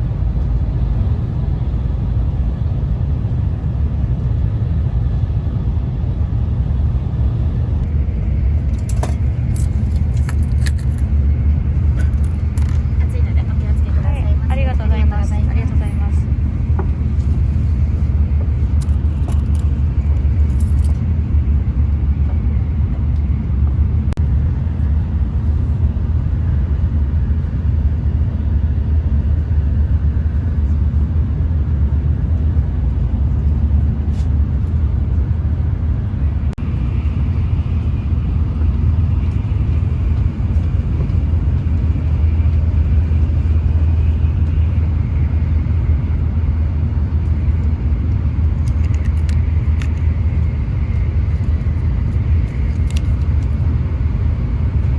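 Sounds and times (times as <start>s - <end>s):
train low rumble: 0.0s - 54.9s.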